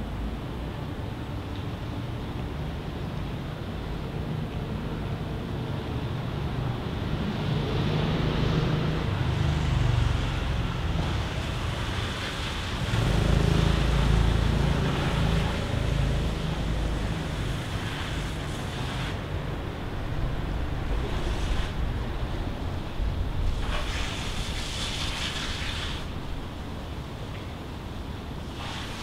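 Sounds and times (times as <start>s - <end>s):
distant road traffic: 0.0s - 29.0s.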